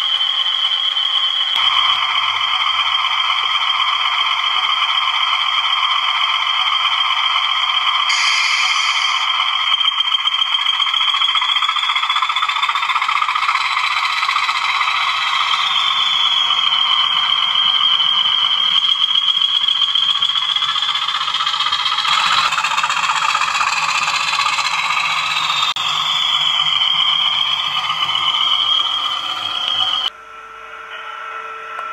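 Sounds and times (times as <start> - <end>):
high wavering whistle: 0.0 - 30.1
model locomotive diesel engine sound: 0.0 - 31.9.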